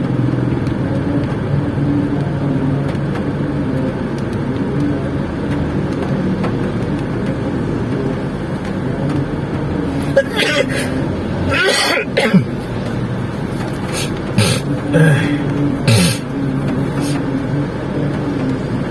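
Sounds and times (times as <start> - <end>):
car engine hum: 0.0 - 18.9.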